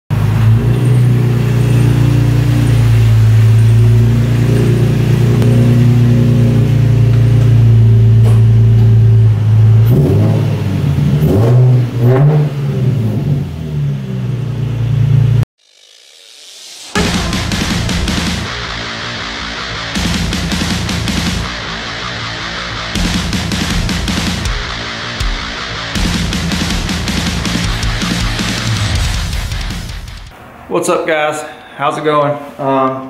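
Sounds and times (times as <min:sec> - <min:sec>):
car engine revving: 0:00.1 - 0:15.4, 0:16.2 - 0:30.4.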